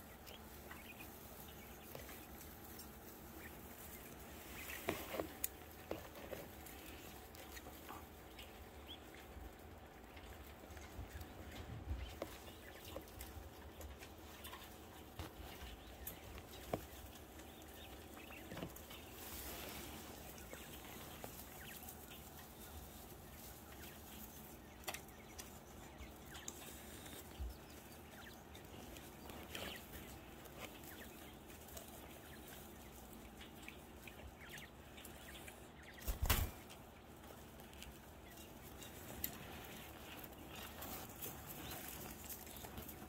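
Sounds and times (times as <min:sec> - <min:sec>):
quail clicks and soft calls: 0:00.0 - 0:43.0.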